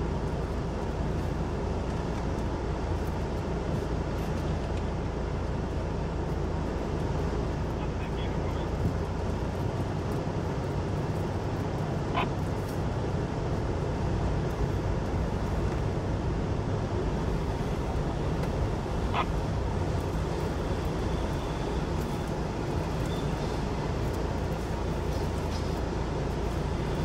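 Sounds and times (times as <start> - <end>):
car engine rumble: 0.0 - 27.0.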